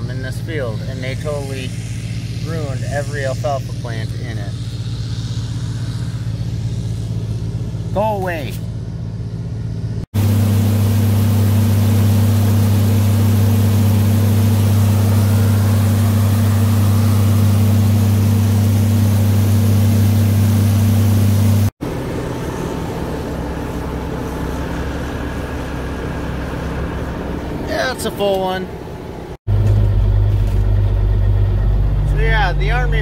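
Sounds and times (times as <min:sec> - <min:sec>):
combine harvester drone: 0:00.0 - 0:33.0
quieter engine: 0:00.0 - 0:33.0.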